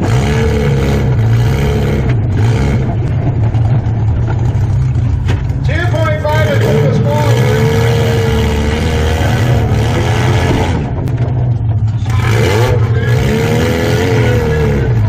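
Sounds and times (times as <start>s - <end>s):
car engine revving hard: 0.0s - 4.6s, 6.0s - 15.0s.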